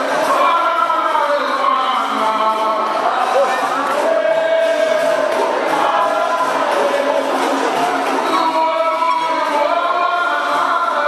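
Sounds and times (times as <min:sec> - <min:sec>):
atabaque drum: 0:00.0 - 0:11.0
pandeiros: 0:00.0 - 0:11.0
voices singing in chorus: 0:00.0 - 0:11.0.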